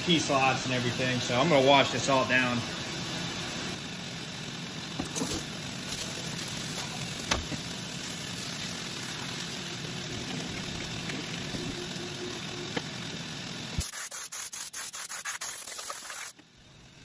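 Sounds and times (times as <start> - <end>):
coolant spraying hiss: 0.0 - 16.4.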